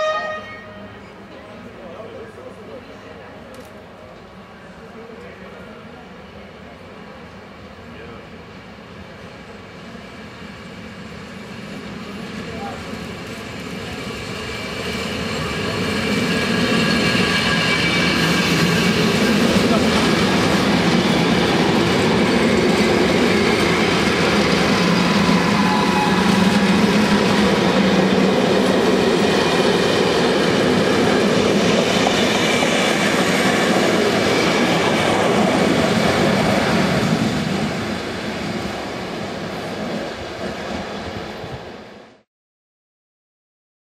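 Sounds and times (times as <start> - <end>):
train wheels running on rails: 0.0 - 41.9.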